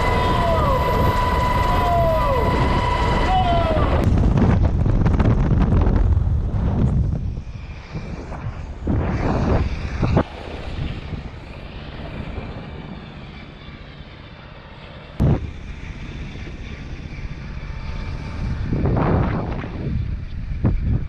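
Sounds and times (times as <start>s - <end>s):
wind buffeting a microphone: 0.0s - 21.0s.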